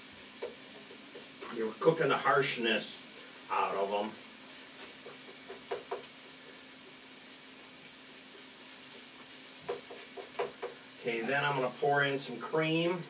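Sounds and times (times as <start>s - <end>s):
onions sizzling in a frying pan: 0.0s - 13.0s.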